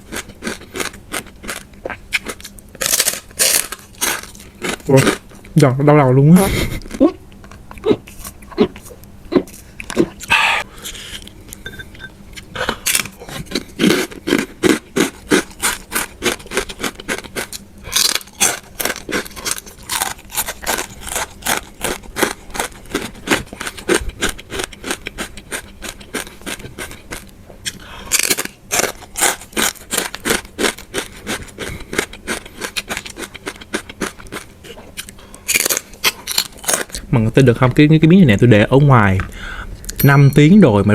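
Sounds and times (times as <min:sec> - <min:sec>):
crunchy food being chewed: 0:00.0 - 0:05.7, 0:06.8 - 0:11.7, 0:12.3 - 0:37.1.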